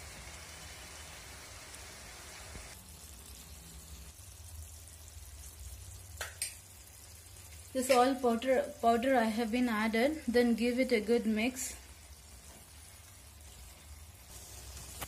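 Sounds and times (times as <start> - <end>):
curry sizzling in a frying pan: 0.0 - 15.0.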